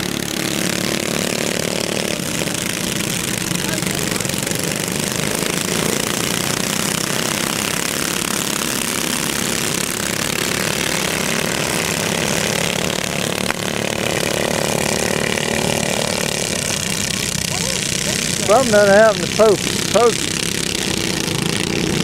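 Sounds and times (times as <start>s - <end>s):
go-kart engines racing: 0.0s - 22.0s.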